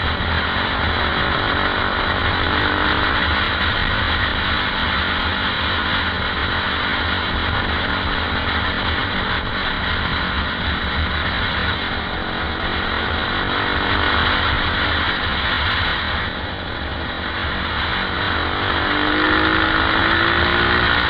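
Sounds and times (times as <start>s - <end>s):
motorcycle engine running: 0.0s - 21.0s
wind rush on microphone: 0.0s - 21.0s.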